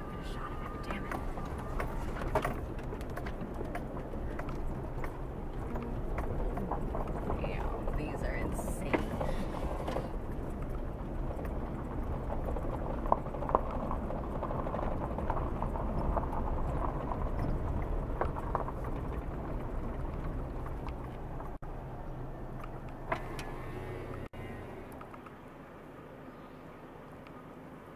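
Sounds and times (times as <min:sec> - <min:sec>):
stones ticking under tyres: 0:00.0 - 0:21.7, 0:22.4 - 0:24.3
car engine and tyre rumble: 0:00.0 - 0:27.9.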